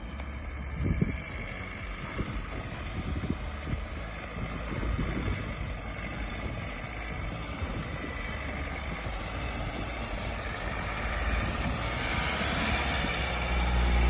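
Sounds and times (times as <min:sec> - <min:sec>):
vehicle engine driving: 0:00.0 - 0:14.0.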